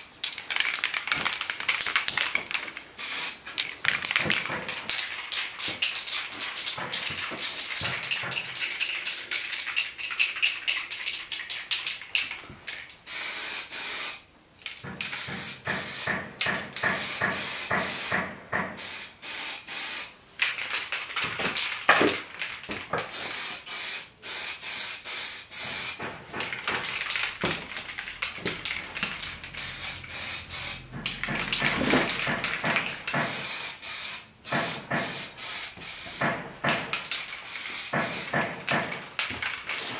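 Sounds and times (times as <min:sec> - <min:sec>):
spray paint can hissing: 0:00.0 - 0:14.2, 0:15.0 - 0:39.9.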